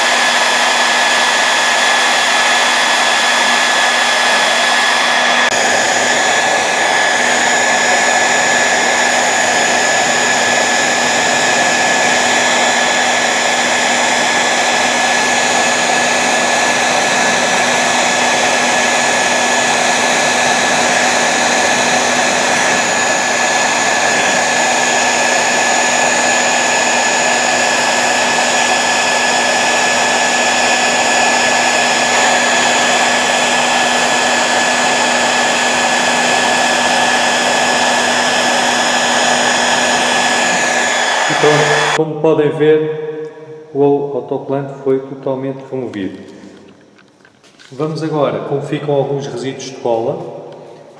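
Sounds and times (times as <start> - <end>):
hair dryer blowing with whine: 0.0 - 42.0.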